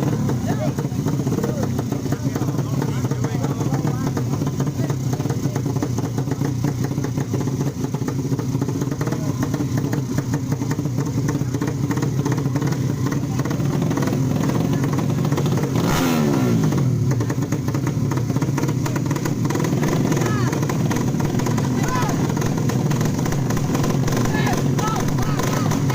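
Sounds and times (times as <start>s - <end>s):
motorcycle engine idling fast: 0.0s - 25.9s.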